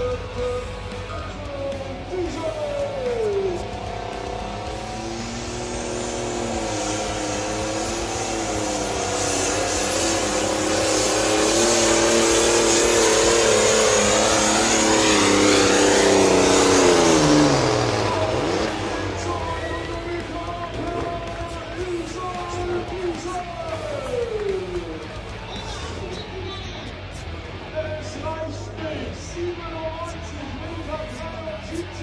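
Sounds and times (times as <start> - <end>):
tractor diesel engine at full throttle: 0.0 - 32.0.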